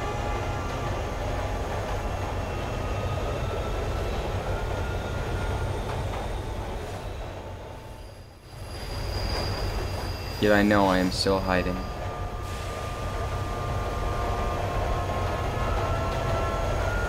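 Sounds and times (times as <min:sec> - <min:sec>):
high wheel squeals: 0:00.0 - 0:17.0
subway train rumble: 0:00.0 - 0:17.0.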